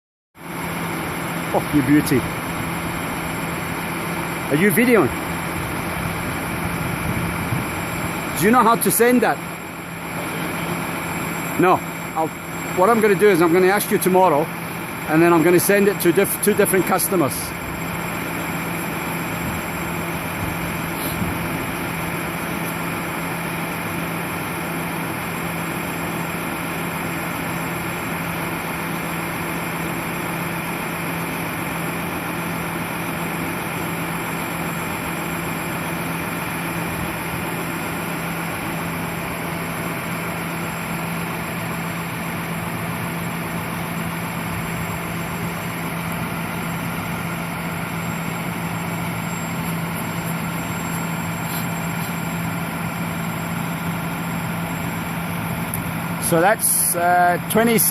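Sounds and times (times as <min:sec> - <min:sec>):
truck engine humming: 0:00.4 - 0:57.9.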